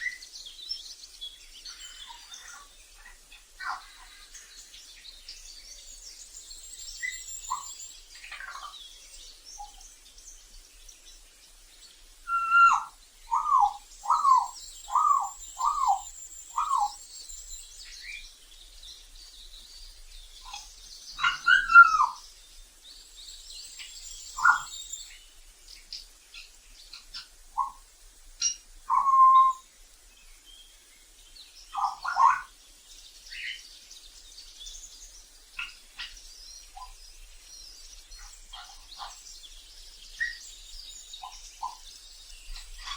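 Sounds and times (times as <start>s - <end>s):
faint high chirping: 0.0s - 10.7s, 12.2s - 29.8s, 30.4s - 42.9s.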